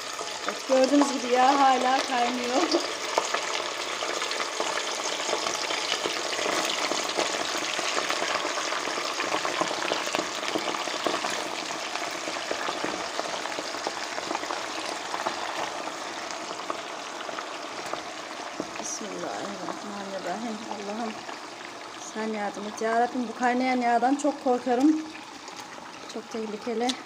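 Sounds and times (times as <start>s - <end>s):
meat sizzling in fat: 0.0s - 27.0s.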